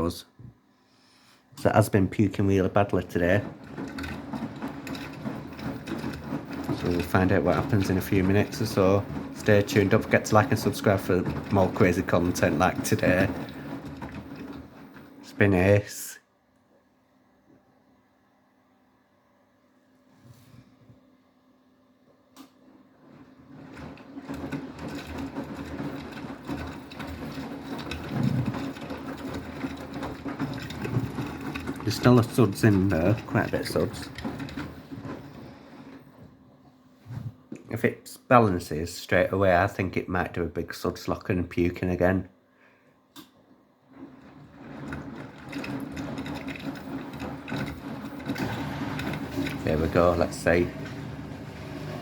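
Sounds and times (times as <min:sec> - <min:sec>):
washing machine drum whirring: 0:00.0 - 0:42.3, 0:43.1 - 0:52.0.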